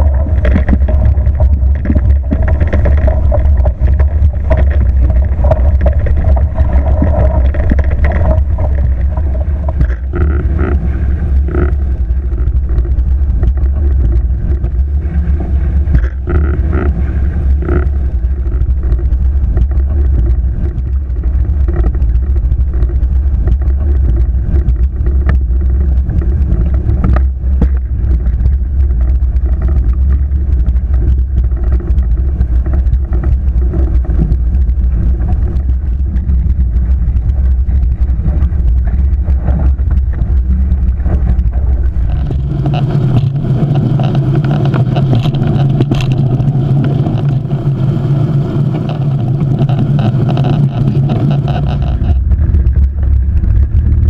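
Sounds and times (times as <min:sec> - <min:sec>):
water rushing along hulls: 0:00.0 - 0:54.0
wind buffeting microphone: 0:00.0 - 0:54.0.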